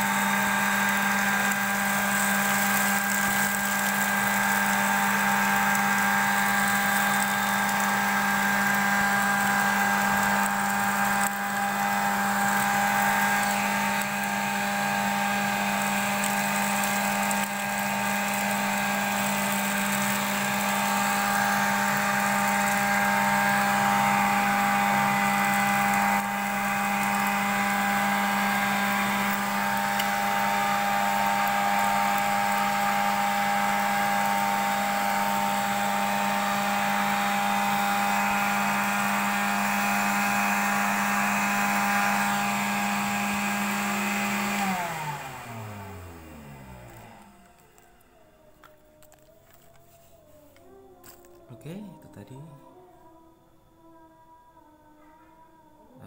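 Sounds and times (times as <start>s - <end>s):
vacuum cleaner motor whine: 0.0s - 53.2s.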